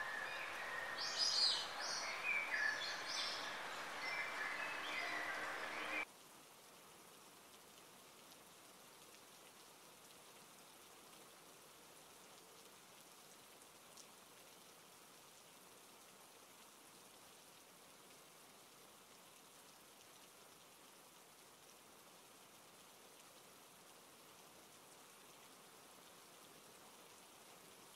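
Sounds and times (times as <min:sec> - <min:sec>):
steady rain hiss: 0:00.0 - 0:27.9.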